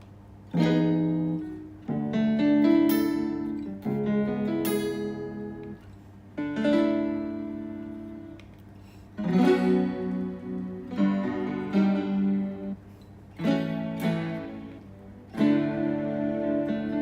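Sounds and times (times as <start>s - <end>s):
synthesized guitar chords: 0.0s - 8.6s, 9.2s - 17.0s.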